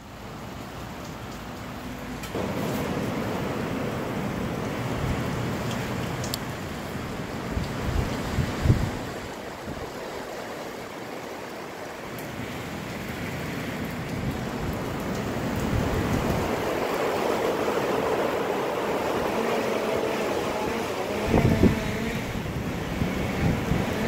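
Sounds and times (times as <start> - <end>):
gusty wind through trees: 0.0 - 24.0
steady rain: 0.0 - 24.0.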